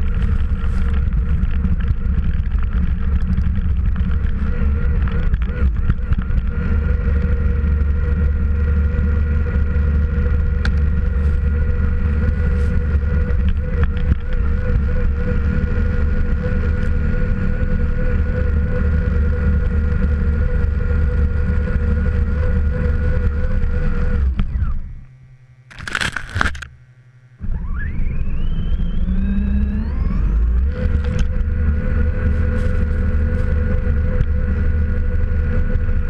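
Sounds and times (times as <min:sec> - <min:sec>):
wind rumble on microphone: 0:00.0 - 0:24.9, 0:27.4 - 0:36.0
toy truck motor whine: 0:04.2 - 0:34.7.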